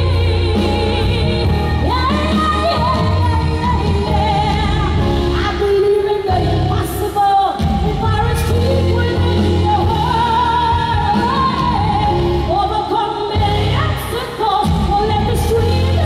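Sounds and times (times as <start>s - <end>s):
backing track music: 0.0s - 16.0s
woman singing with vibrato: 0.0s - 16.0s.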